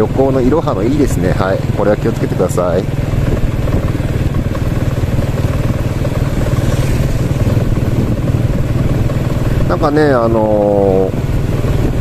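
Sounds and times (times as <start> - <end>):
motorbike engine rumbling: 0.0 - 12.0.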